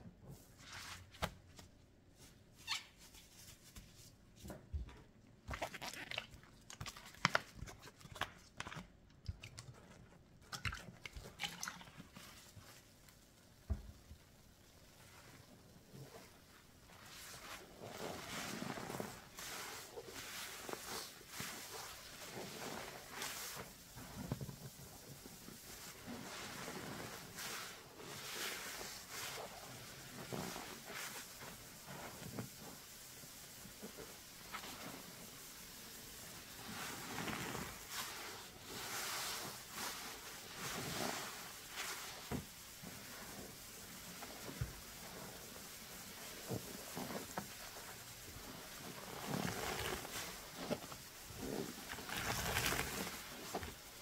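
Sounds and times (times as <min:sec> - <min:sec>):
sponge squeezing sudsy lather: 0:05.4 - 0:13.7, 0:14.6 - 0:54.0.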